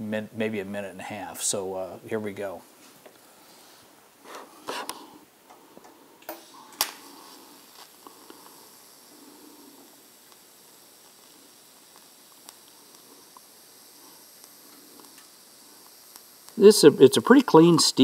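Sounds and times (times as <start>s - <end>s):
welding arc hiss and whine: 0.0s - 18.0s.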